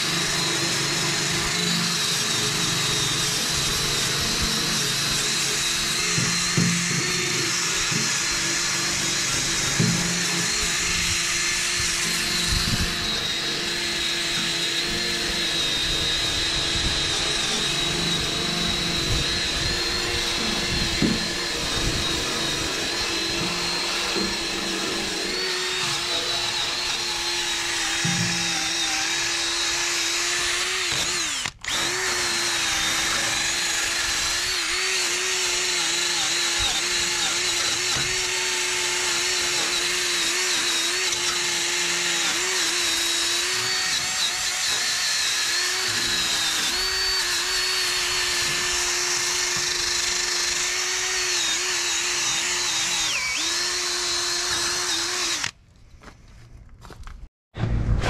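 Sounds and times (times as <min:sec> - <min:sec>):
drill spinning wire brush on steel: 0:00.0 - 0:55.6.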